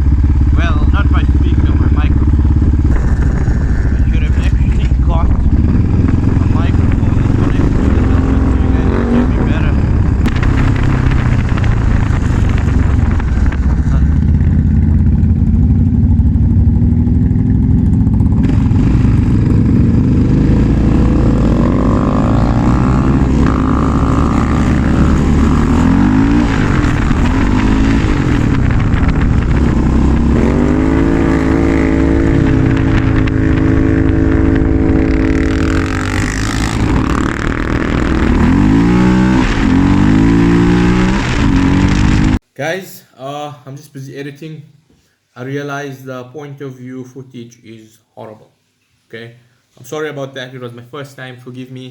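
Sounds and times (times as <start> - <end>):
quad bike engine revving: 0.0 - 42.4.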